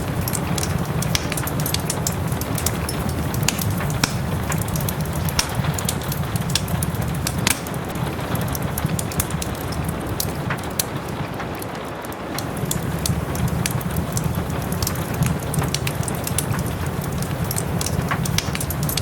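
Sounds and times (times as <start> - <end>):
soft rain hiss: 0.0 - 19.0
wood fire crackling and popping: 0.0 - 19.0.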